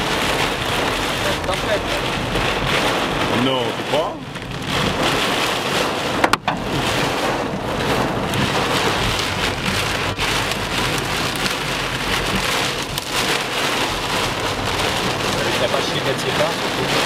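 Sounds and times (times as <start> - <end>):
car rumbling on wet road: 0.0 - 17.0
heavy rain drumming on car: 0.0 - 17.0.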